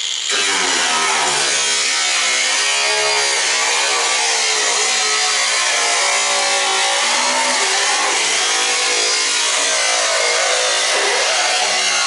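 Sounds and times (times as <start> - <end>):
power tool cutting metal: 0.0 - 12.0.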